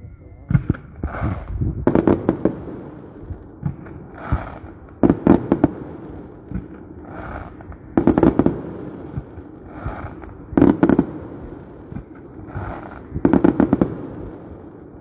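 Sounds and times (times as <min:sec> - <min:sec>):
fireworks sharp bangs: 0:00.0 - 0:15.0
rumble of distant fireworks: 0:00.0 - 0:15.0.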